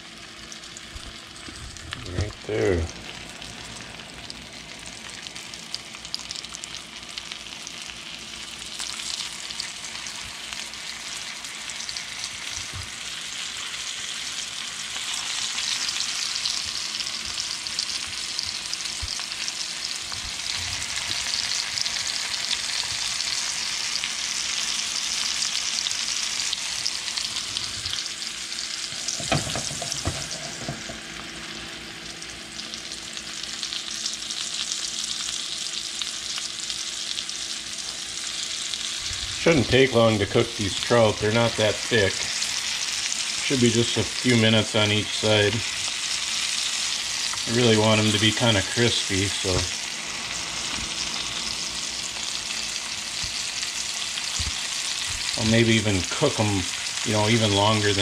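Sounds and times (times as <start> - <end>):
fish sizzling in butter: 0.1 - 58.0.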